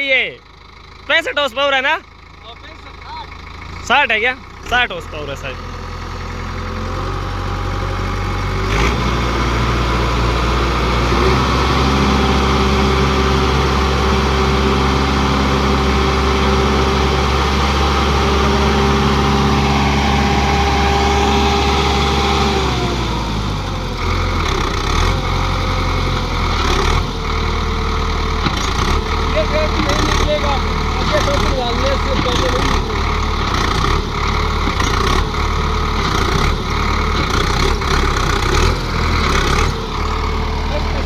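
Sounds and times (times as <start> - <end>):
tractor diesel engine straining: 0.0 - 41.0.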